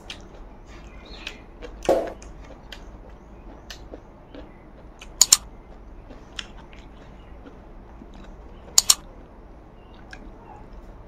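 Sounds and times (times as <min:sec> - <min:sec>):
mouth clicks: 0:00.0 - 0:10.8
person chewing: 0:00.0 - 0:10.8.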